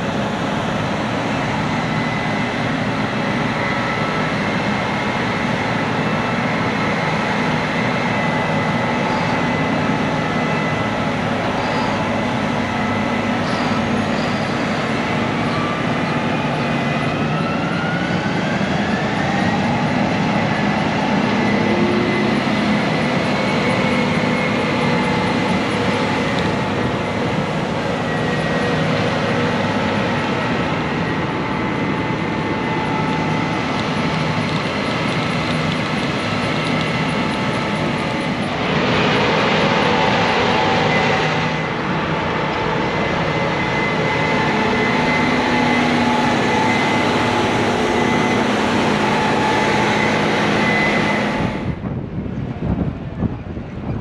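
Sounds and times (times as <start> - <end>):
combine diesel engines running: 0.0 - 54.0
high engine whine: 0.0 - 54.0.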